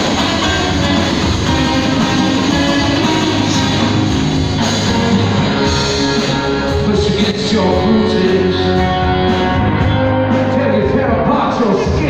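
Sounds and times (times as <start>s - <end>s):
drums: 0.0s - 12.0s
electric guitars: 0.0s - 12.0s.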